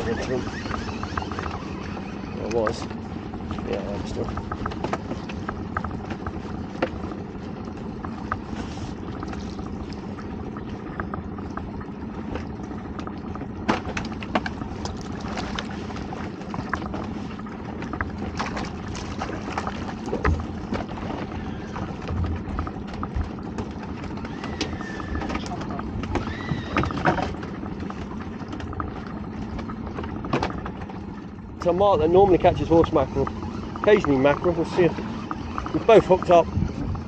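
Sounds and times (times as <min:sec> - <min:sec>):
outboard motor idling: 0:00.0 - 0:37.0
water sloshing against hull: 0:00.0 - 0:37.0.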